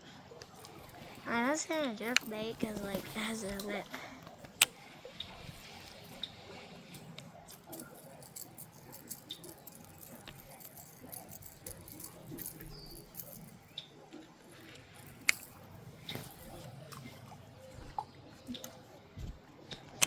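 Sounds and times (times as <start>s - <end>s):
small clicks and light rattling: 0.4s - 20.0s.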